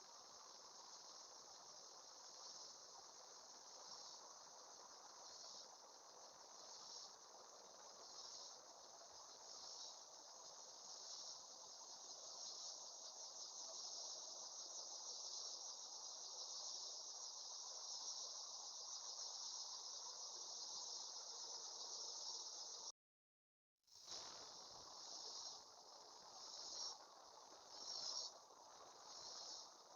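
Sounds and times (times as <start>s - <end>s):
insects trilling: 0.0s - 22.9s, 24.1s - 29.9s.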